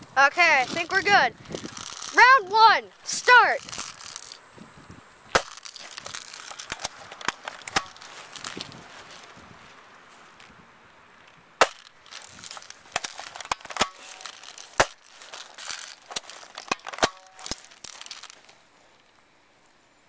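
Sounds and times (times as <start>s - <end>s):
rustling: 0.4s - 10.6s, 11.2s - 19.8s.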